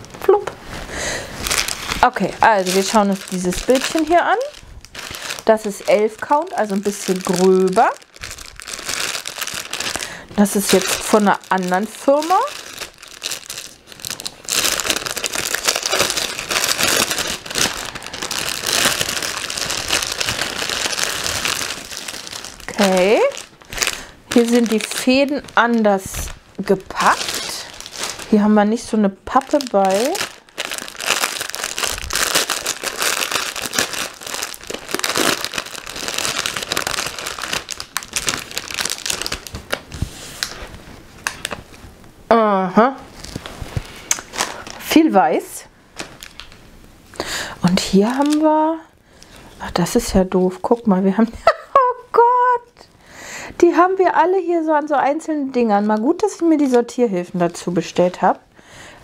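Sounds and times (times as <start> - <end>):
plastic film crinkling: 0.0 - 42.0, 43.1 - 45.1, 45.9 - 46.7, 47.6 - 51.6, 53.7 - 58.4.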